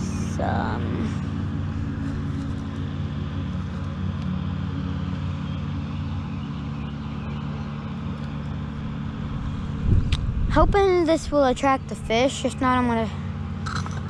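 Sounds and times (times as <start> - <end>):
lawnmower engine running: 0.0 - 14.0.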